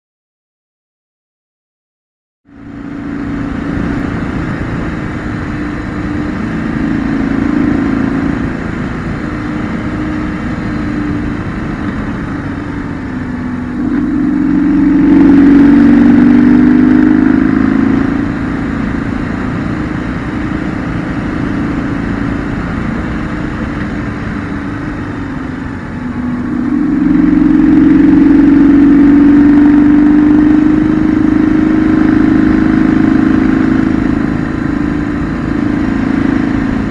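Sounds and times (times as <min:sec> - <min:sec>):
motorcycle engine accelerating: 0:02.4 - 0:36.9.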